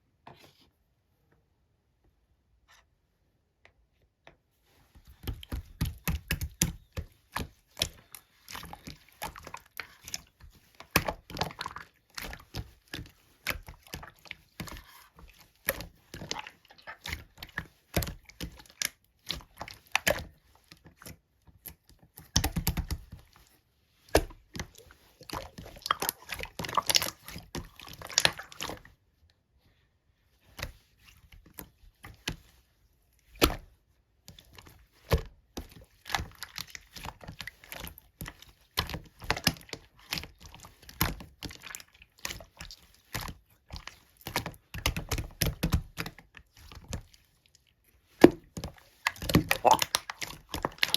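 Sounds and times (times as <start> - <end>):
slime squelching and popping: 5.0 - 29.0, 33.2 - 50.9.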